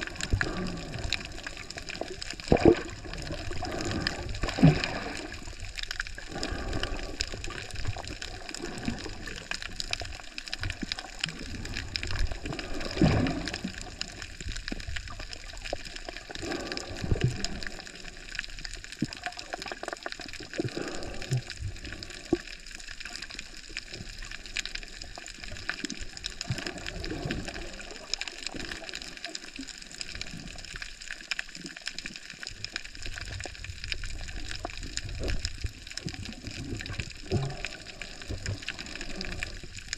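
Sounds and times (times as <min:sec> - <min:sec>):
crackle of small clicks: 0:00.0 - 0:39.9
underwater moving water wash: 0:00.0 - 0:39.9.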